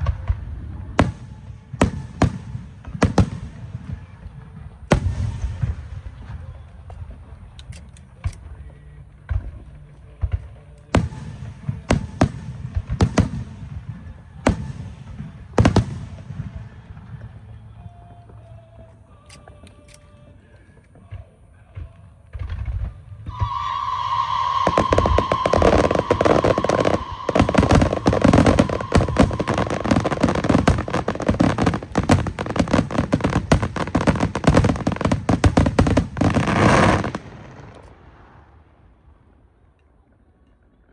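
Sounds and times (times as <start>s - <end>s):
fireworks bangs with echo: 0.0s - 18.1s, 20.8s - 39.3s.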